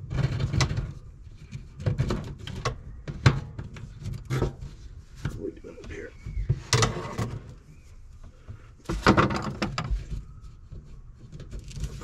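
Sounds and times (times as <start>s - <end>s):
knocks clunks and rattles: 0.0s - 12.0s.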